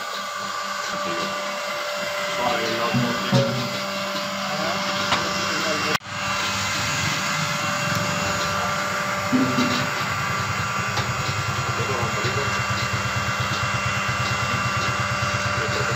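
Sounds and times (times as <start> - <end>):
machine throbbing and whining: 0.0 - 15.9.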